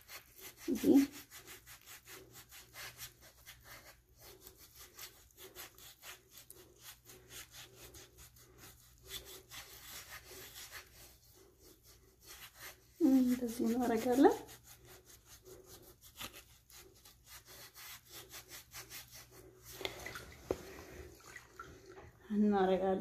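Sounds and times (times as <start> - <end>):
foot file rasping against skin: 0.0 - 20.8.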